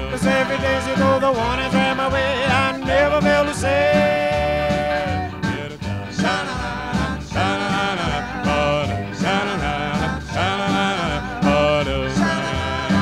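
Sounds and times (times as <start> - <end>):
band with steady bass beat: 0.0 - 13.0
doo-wop vocal group singing: 0.0 - 13.0.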